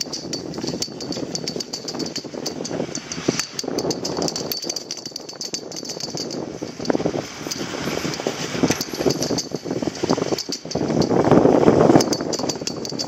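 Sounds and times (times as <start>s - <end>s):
ski lift hanger rattling and scraping: 0.0s - 13.0s.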